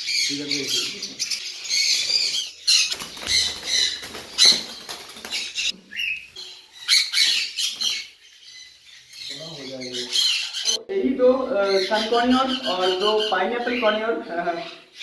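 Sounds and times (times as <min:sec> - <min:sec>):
parrots squawking: 0:00.0 - 0:10.9, 0:11.5 - 0:15.0.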